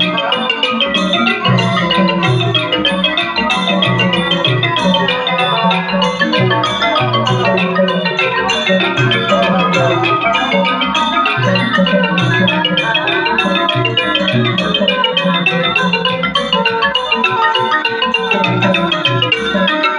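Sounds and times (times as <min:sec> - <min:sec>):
wooden xylophone fast runs: 0:00.0 - 0:19.9.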